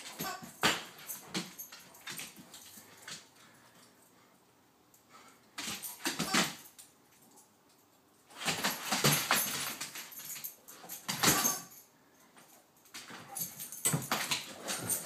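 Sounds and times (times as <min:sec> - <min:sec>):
dogs play-fighting: 0:00.0 - 0:07.5, 0:08.3 - 0:15.0.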